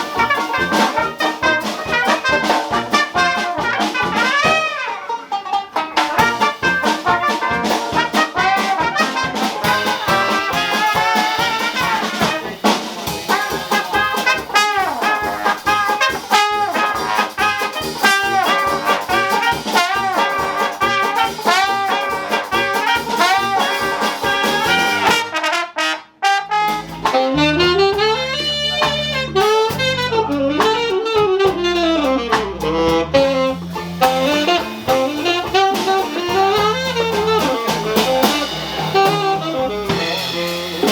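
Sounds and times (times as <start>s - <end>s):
horn line over bass: 0.0s - 40.9s
jazz band playing: 0.0s - 40.9s.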